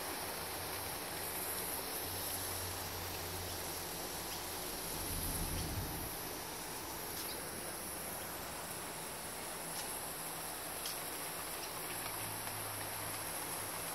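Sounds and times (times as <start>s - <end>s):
insects droning: 0.0s - 13.9s
water spraying from hose: 0.0s - 13.9s.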